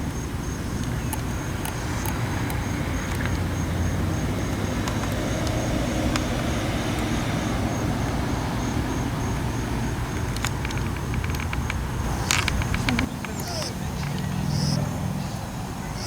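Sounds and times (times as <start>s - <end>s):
road traffic rumble in rain: 0.0s - 16.0s
faint ticks: 0.7s - 14.8s.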